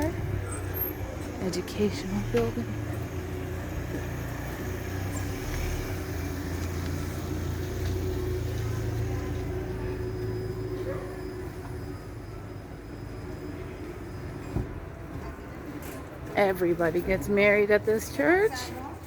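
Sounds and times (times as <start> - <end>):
vehicle engine low hum: 0.0 - 18.9
street traffic: 0.0 - 19.0.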